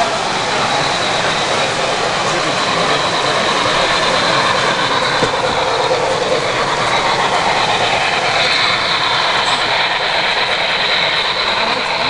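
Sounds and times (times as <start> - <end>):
model train wheels clattering: 0.0 - 12.0.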